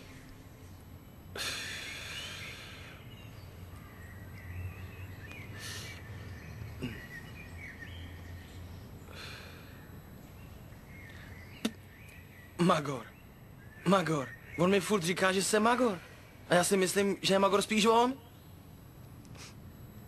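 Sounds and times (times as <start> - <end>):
small birds chirping: 0.0 - 19.9
low city rumble: 0.0 - 20.0.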